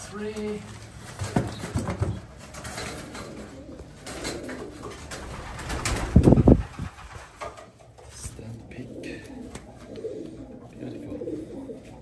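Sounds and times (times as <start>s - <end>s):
pigeons cooing: 1.2s - 7.9s, 8.6s - 12.0s.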